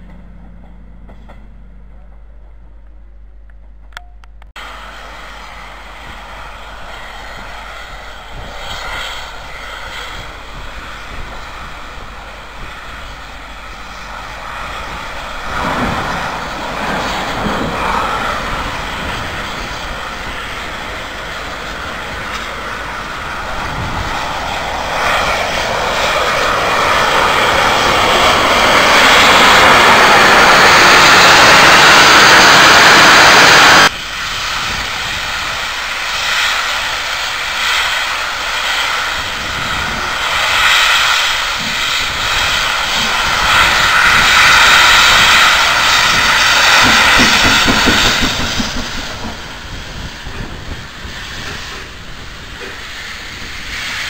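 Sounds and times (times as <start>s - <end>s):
steam locomotive running: 3.8s - 54.0s
rushing hiss of steam: 4.6s - 54.0s.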